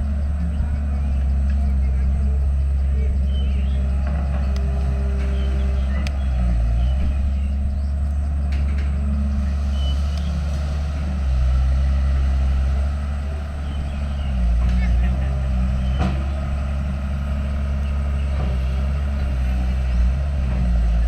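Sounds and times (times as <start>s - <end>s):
heavy diesel engine under load: 0.0s - 21.0s.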